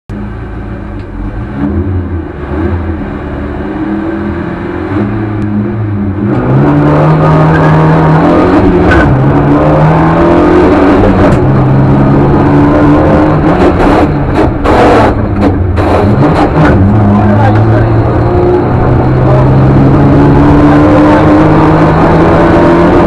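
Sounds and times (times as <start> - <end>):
rally car engine revving: 0.1 - 23.0.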